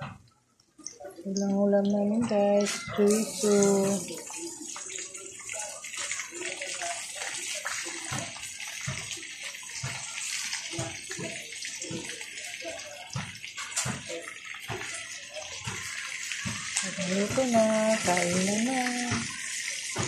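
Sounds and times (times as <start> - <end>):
sausages sizzling in a pan: 2.2 - 20.0
oil popping and spattering: 2.7 - 20.0.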